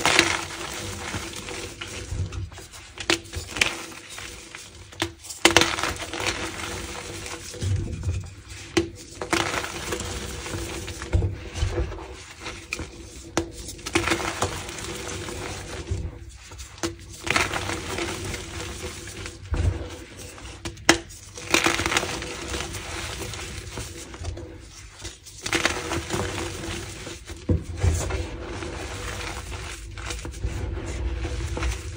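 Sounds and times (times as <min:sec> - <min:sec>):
chalk cracking and crumbling: 0:00.0 - 0:31.9.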